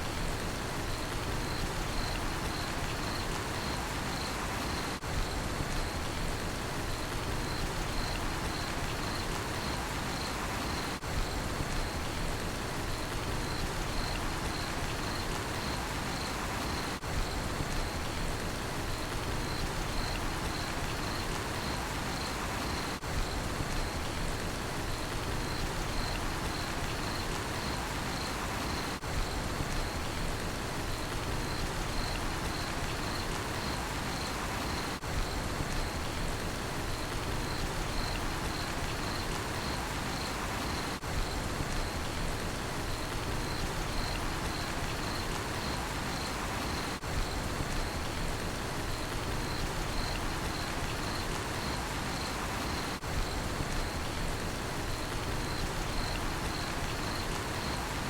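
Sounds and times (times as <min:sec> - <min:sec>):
crickets chirping: 0:00.0 - 0:58.0
steady rain: 0:00.0 - 0:58.0.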